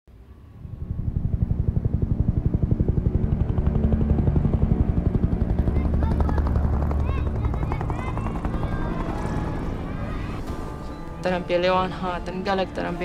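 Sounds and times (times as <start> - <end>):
helicopter rotor beating: 0.4 - 13.0.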